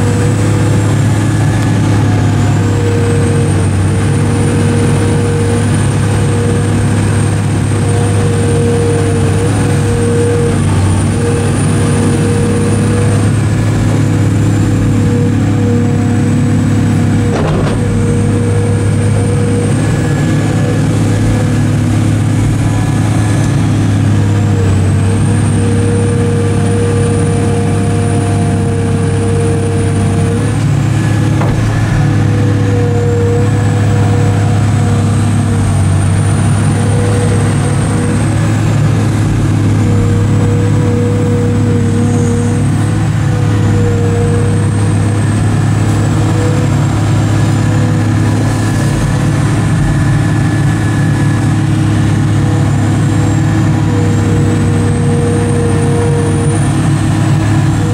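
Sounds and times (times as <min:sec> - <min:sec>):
excavator diesel engine running: 0:00.0 - 0:57.9
high engine whine: 0:00.0 - 0:57.9.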